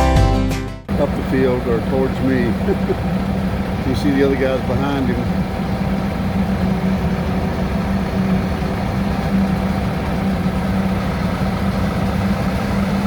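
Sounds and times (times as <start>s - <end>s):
truck engine running steadily: 0.9s - 13.0s.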